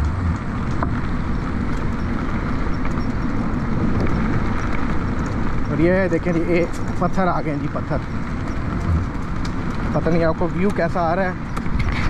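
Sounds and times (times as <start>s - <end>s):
tyres rumbling on dirt: 0.0s - 12.0s
wind buffeting microphone: 0.0s - 12.0s.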